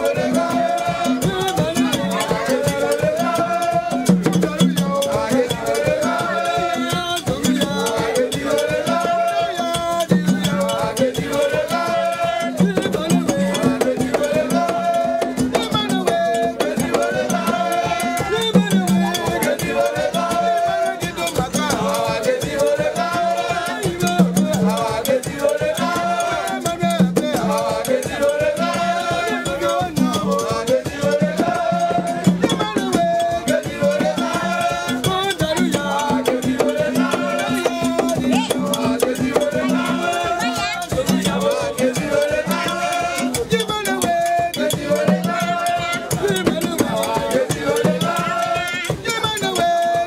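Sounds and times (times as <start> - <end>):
hand drums and percussion: 0.0 - 50.0
voices singing: 0.0 - 50.0.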